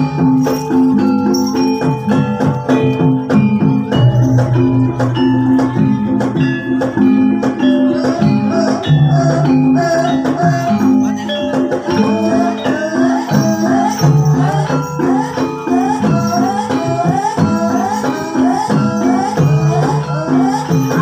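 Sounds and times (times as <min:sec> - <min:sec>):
gamelan-style music: 0:00.0 - 0:21.0.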